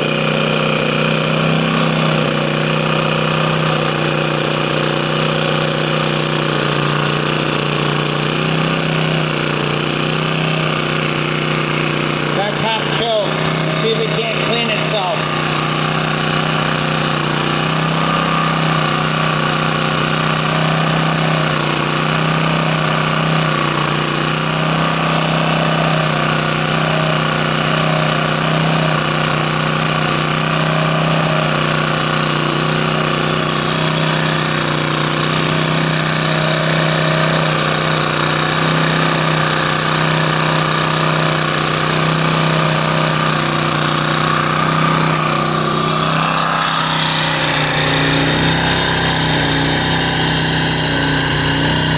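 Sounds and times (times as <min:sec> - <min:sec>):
generator engine running: 0:00.0 - 0:51.9.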